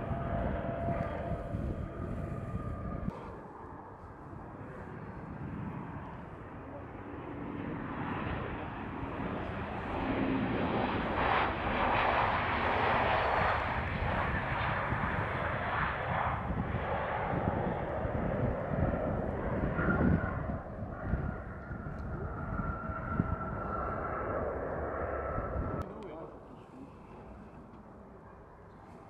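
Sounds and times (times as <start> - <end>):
jet airliner landing: 0.0 - 26.4.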